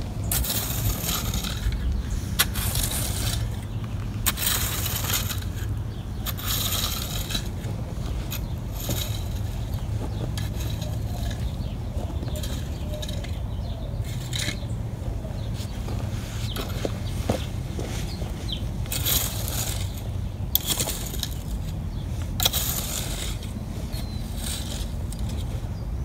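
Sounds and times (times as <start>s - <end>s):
rake scraping rocky soil: 0.0s - 26.0s.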